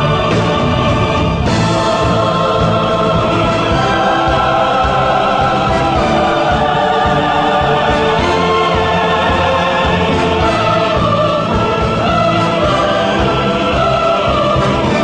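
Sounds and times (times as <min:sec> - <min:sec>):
choral singing with orchestra: 0:00.0 - 0:15.0.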